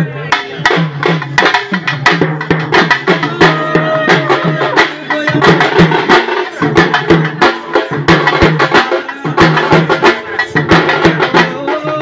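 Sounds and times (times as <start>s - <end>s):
drums beaten with sticks: 0.0s - 12.0s.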